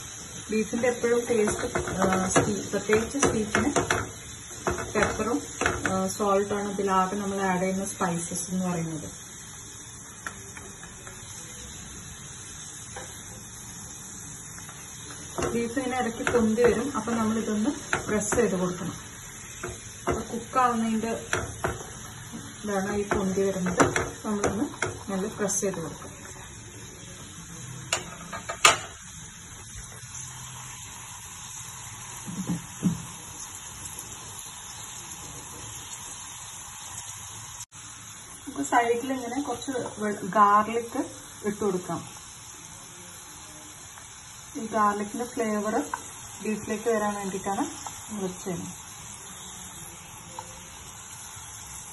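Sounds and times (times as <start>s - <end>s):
steaks sizzling in a frying pan: 0.0s - 51.9s.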